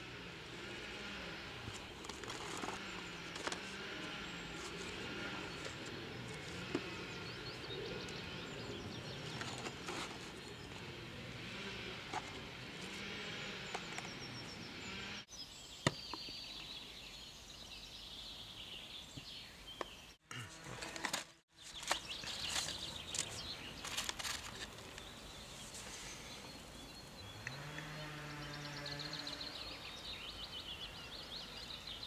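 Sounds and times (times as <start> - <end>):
birds chirping and calling: 0.4 - 20.2, 21.6 - 32.0.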